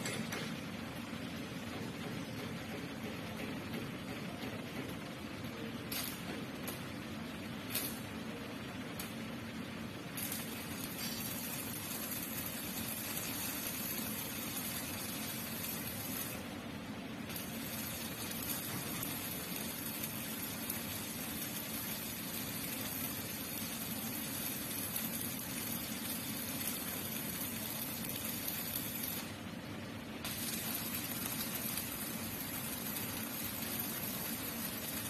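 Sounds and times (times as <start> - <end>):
crackling welding arc: 5.8 - 35.0.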